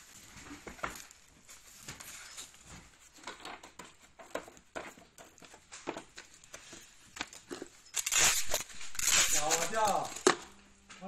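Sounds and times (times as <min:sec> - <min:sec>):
plastic film rustling: 0:00.0 - 0:10.9.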